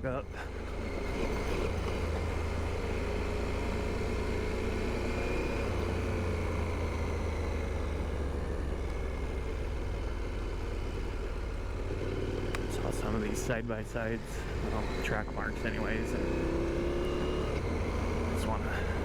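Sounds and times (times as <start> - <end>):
motorcycle engine running: 0.0 - 19.0
wind and tyre noise: 0.0 - 19.0.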